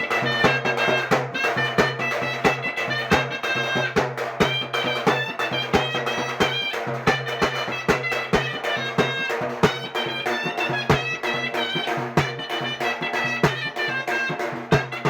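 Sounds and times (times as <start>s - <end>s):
high reedy wind instrument melody: 0.0s - 15.0s
steady drum beat: 0.0s - 15.0s.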